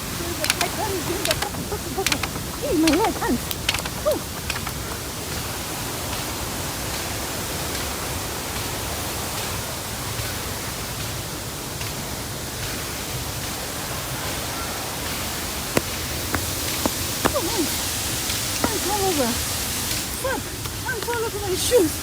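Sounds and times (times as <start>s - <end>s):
waterfall roar: 0.0s - 22.0s.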